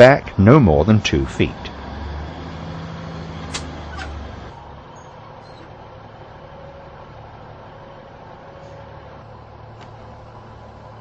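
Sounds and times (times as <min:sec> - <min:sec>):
train diesel engine running: 0:00.0 - 0:11.0.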